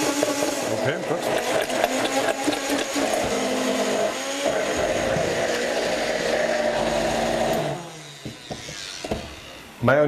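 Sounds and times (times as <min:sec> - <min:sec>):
electric mixer running: 0:00.0 - 0:09.9.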